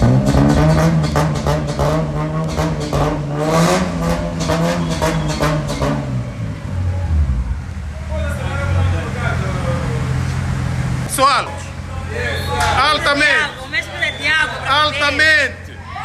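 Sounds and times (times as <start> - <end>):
car engine revving: 0.0 - 13.5.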